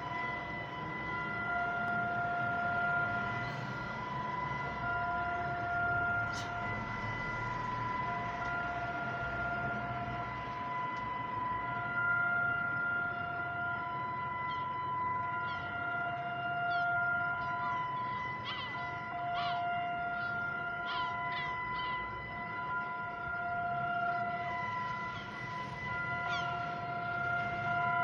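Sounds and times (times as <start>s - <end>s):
warning sirens: 0.0s - 28.0s.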